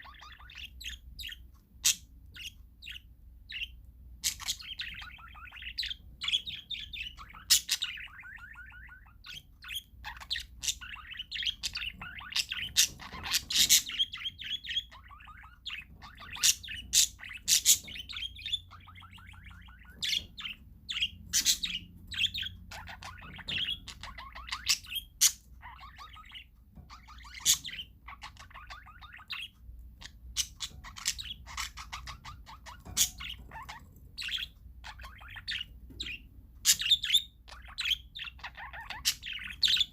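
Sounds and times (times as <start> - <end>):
parakeets chattering: 0.0 - 39.9.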